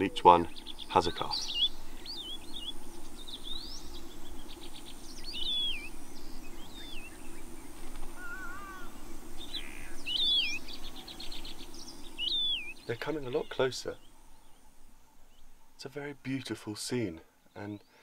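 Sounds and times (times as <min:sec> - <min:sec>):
birds whistling: 0:00.0 - 0:15.6
bird warbling call: 0:00.0 - 0:15.7
bird ticking trills: 0:00.0 - 0:16.6.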